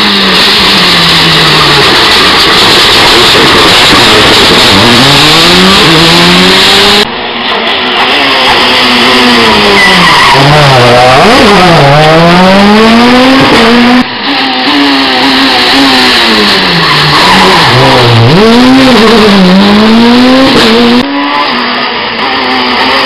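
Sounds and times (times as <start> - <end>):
rally car engines revving: 0.0 - 23.0.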